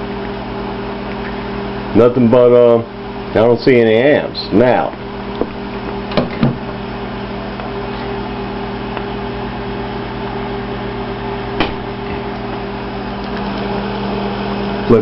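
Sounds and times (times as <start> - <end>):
electrical hum with fan whir: 0.0 - 15.0.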